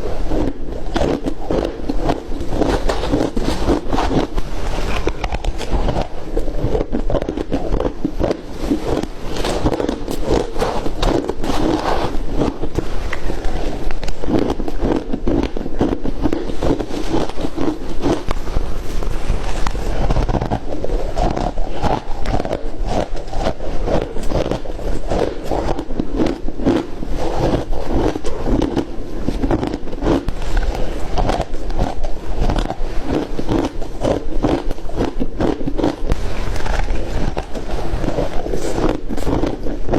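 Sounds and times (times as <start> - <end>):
ice crunching and chewing: 0.0 - 39.9.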